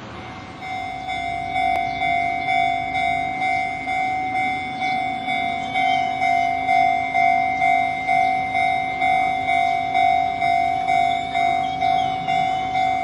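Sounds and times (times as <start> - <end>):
level crossing bell ringing: 0.3 - 13.0.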